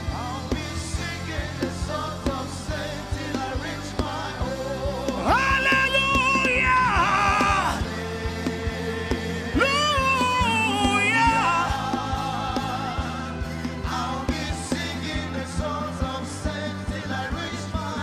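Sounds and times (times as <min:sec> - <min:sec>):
gospel band playing: 0:00.0 - 0:18.0.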